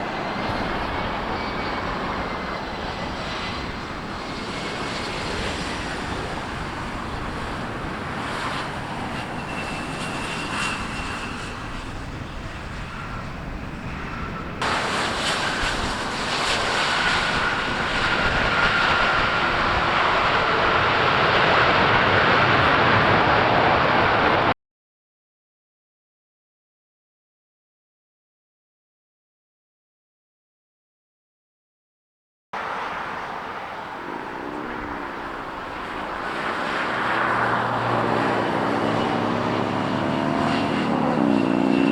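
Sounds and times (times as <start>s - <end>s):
high engine whine: 0.0s - 24.6s, 32.6s - 41.9s
jet engines rumbling: 0.0s - 24.6s, 32.6s - 41.9s.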